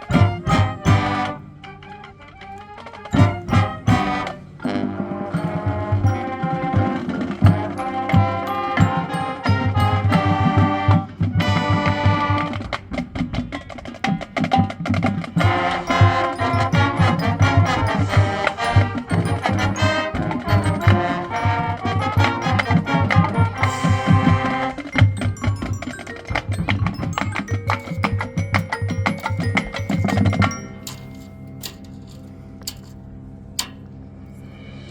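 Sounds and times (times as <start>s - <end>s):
mallet percussion: 0.0s - 1.7s, 3.1s - 12.7s, 14.1s - 34.9s
brass and woodwinds: 0.0s - 13.6s, 14.4s - 31.0s
drumline: 0.0s - 32.9s.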